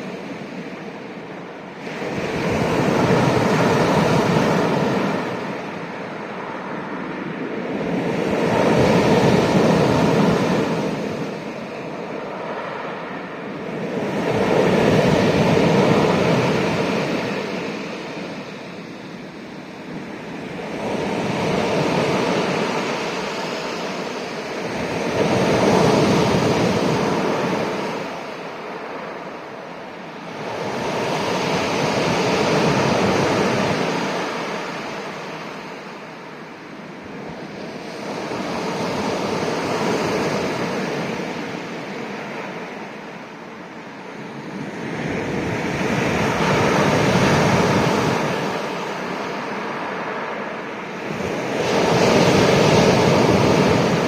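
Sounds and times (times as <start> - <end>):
sea waves surging and receding: 0.0 - 54.0.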